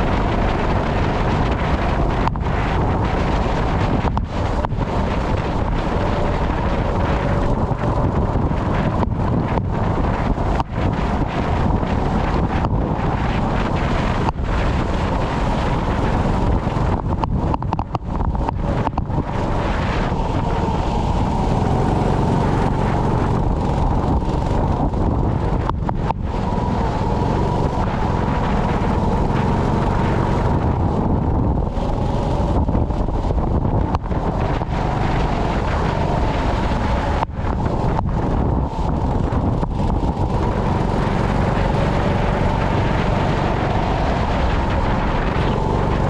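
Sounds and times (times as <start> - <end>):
go-kart engine racing: 0.0 - 46.0
wind rumble on microphone: 0.0 - 46.0.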